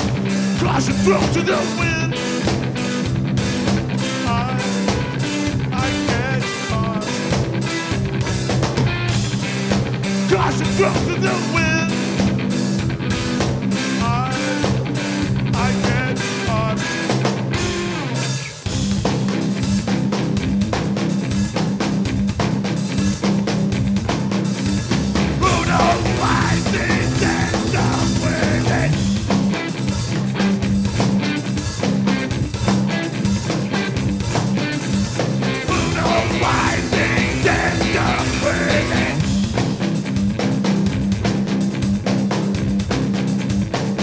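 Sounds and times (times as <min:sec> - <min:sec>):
melodic guitar line: 0:00.0 - 0:42.6
live rock band playing loudly: 0:00.0 - 0:44.0.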